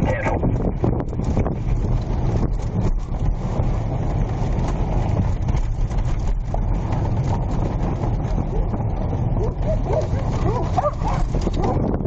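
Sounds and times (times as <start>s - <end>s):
vehicle engine rumbling: 0.0s - 12.0s
wind buffeting microphone: 0.0s - 12.0s.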